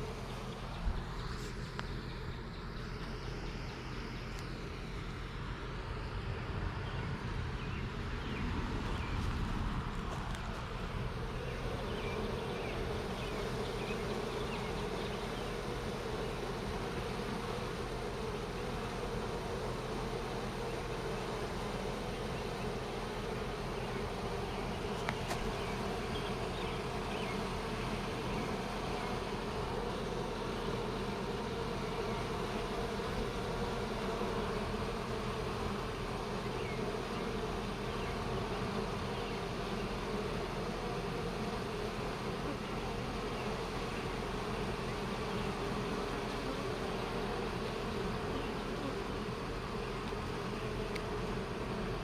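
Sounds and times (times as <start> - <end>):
honeybees buzzing: 0.0 - 52.0.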